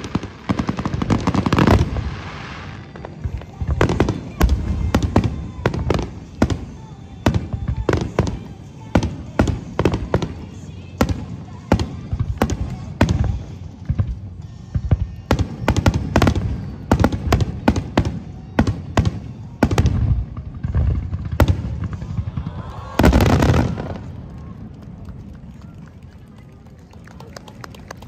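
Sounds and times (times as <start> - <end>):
fireworks booming and crackling: 0.0 - 26.8.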